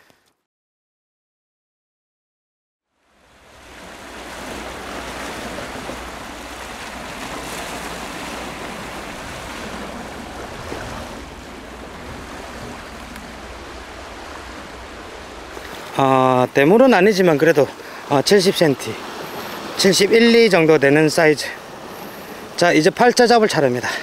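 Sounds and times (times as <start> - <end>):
surf washing over rocks: 3.0 - 24.0.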